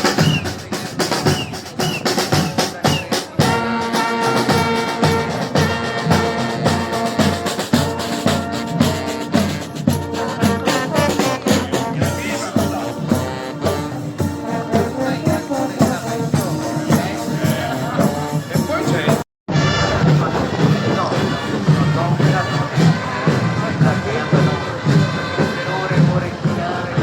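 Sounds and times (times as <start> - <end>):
music with steady drum beat: 0.0 - 19.2, 20.0 - 27.0.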